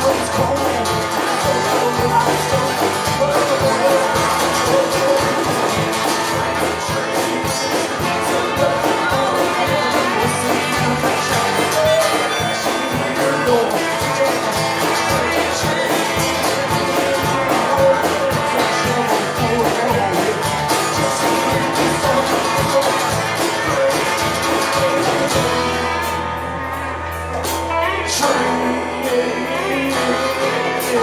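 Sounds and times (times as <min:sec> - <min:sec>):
woman singing: 0:00.0 - 0:06.0, 0:06.6 - 0:25.6, 0:27.7 - 0:31.0
live band playing roots-rock: 0:00.0 - 0:31.0
strummed acoustic guitars: 0:00.0 - 0:31.0.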